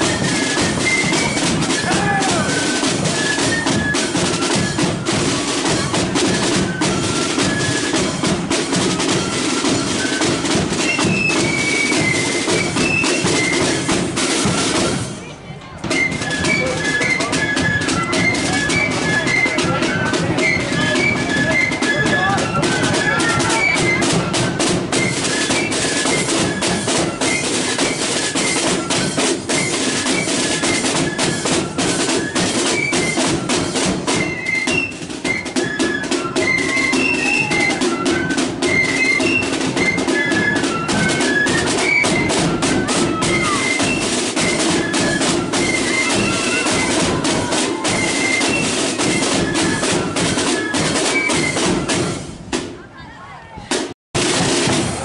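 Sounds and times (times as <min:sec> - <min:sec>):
rapid snare drum strokes: 0:00.0 - 0:15.2, 0:15.8 - 0:52.8, 0:53.7 - 0:55.0
flutes playing melody: 0:00.0 - 0:52.6.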